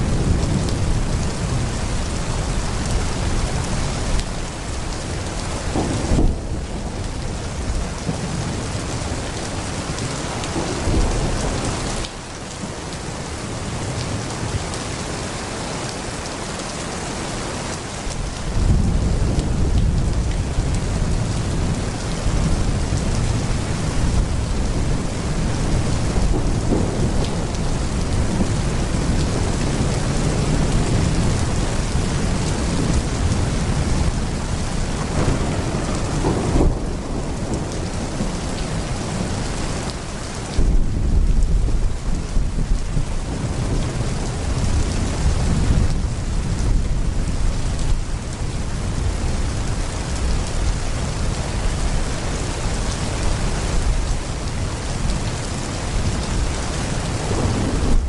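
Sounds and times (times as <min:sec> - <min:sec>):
thunder rumbling: 0:00.0 - 0:12.9, 0:18.2 - 0:58.0
heavy rain pouring: 0:00.0 - 0:58.0.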